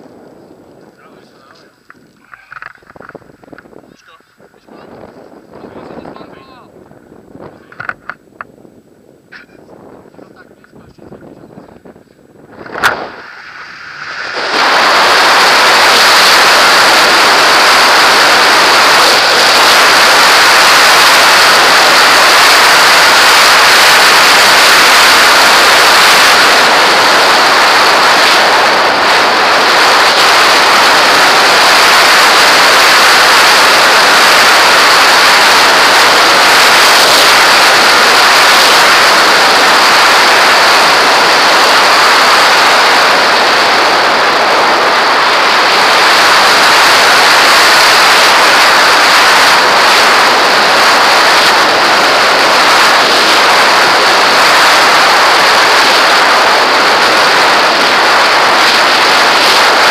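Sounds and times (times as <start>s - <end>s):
wind rushing over camera: 0.0s - 59.9s.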